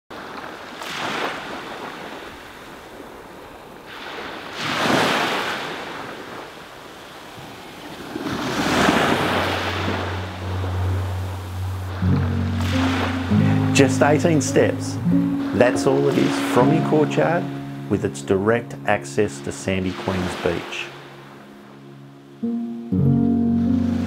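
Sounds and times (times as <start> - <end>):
small waves breaking on sand: 0.1 - 18.0, 18.9 - 21.8.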